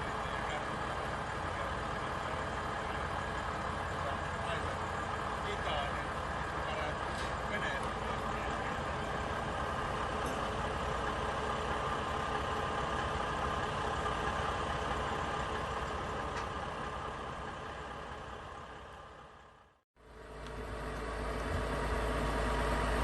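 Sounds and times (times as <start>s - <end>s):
deep engine rumble: 0.0s - 23.0s
vehicle engine idling: 0.0s - 23.0s.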